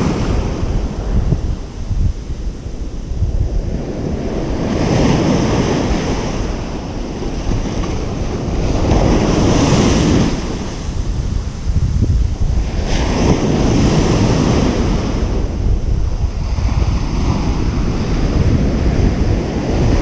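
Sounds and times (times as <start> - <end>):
ocean surf washing onto beach: 0.0 - 20.0
wind rumble on microphone: 0.0 - 20.0.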